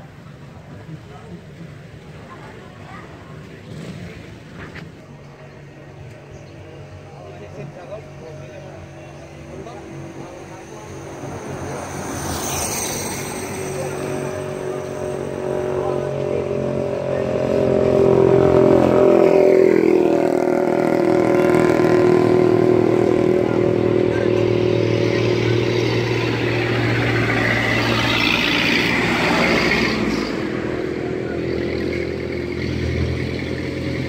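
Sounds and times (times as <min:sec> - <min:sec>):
vehicles passing by: 0:00.0 - 0:34.0.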